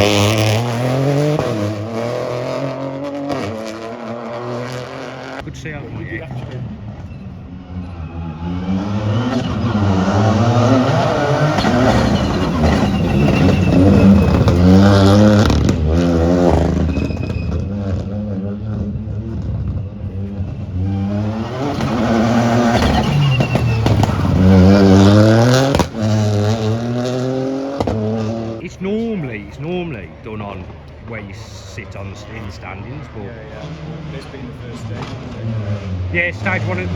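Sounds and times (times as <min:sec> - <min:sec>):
rally car engine revving: 0:00.0 - 0:36.9.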